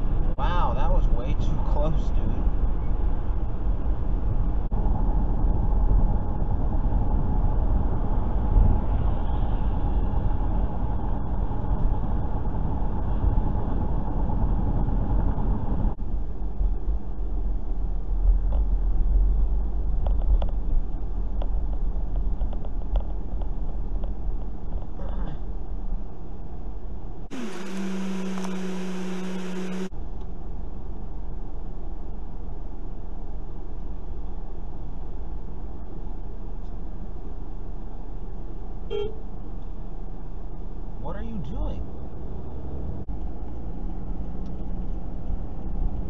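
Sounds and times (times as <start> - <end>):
car road and engine noise: 0.0 - 46.0.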